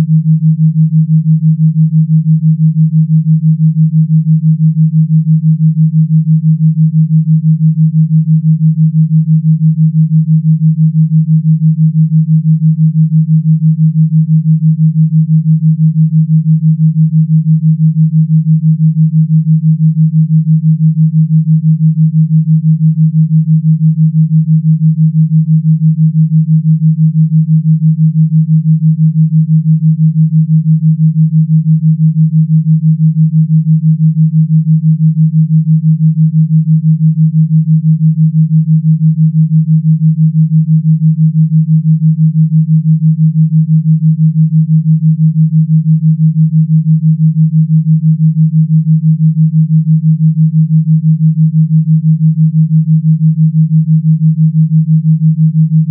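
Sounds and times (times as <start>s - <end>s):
low pulsing electronic tone: 0.0s - 49.0s, 49.6s - 55.9s.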